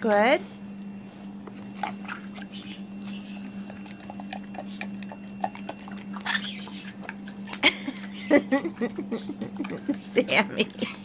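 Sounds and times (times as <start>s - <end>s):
low hum: 0.0s - 11.0s
pet chewing food: 0.1s - 11.0s.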